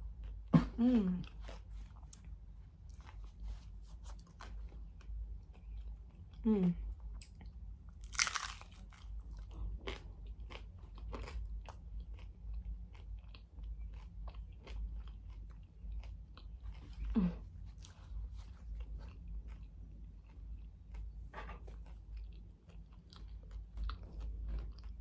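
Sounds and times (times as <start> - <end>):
crunching and chewing crisp shell: 1.2 - 25.0.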